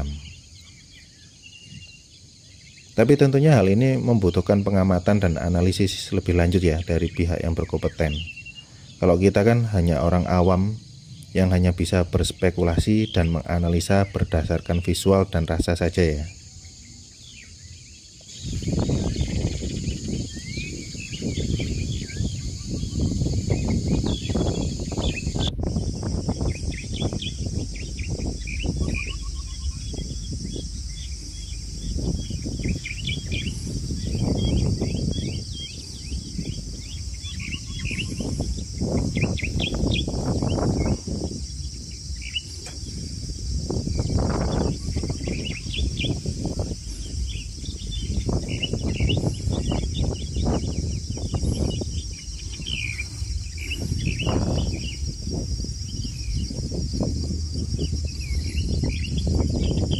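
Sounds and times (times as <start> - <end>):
birds chirping: 0.0 - 59.9
insects trilling: 0.0 - 59.9
low rumbling surges: 3.0 - 59.9.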